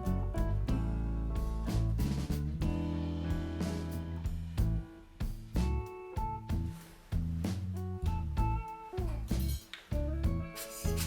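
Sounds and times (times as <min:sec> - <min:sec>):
guitar-led instrumental music: 0:00.0 - 0:11.0.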